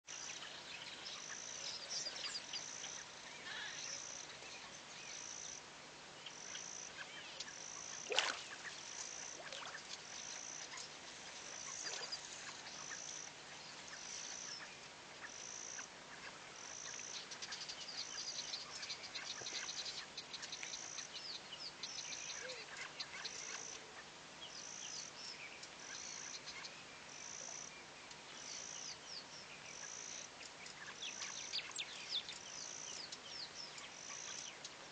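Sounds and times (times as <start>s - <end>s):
birds chirping: 0.1s - 5.6s, 6.2s - 34.9s.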